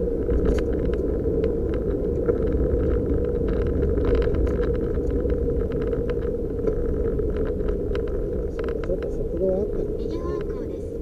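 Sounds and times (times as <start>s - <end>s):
car engine and tyres droning: 0.0s - 11.0s
light ticks and rattles: 0.2s - 10.8s.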